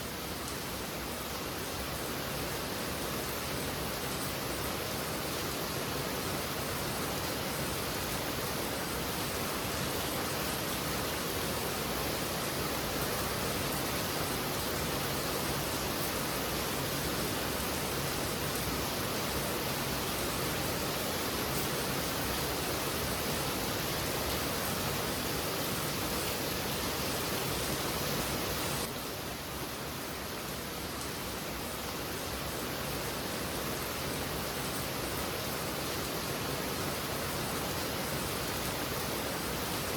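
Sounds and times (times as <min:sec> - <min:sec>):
heavy rain falling: 0:02.9 - 0:39.9.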